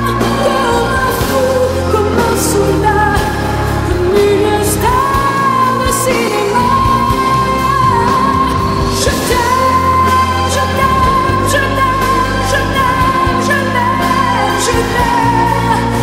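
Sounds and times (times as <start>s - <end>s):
steady bass line: 0.0s - 16.0s.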